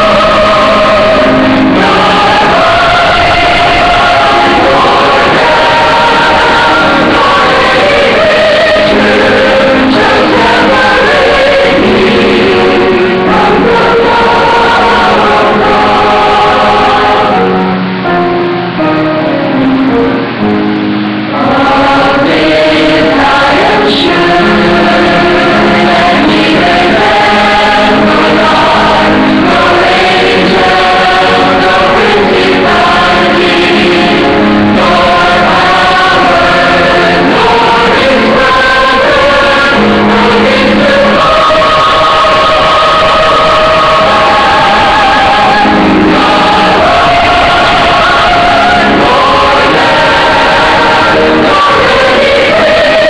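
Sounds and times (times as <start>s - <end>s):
mixed choir singing a hymn: 0.0s - 18.9s, 21.3s - 53.0s.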